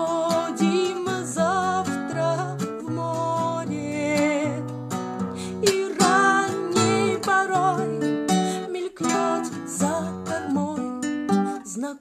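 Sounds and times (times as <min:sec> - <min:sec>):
strummed acoustic guitar: 0:00.0 - 0:11.9
woman singing with vibrato: 0:00.0 - 0:12.0.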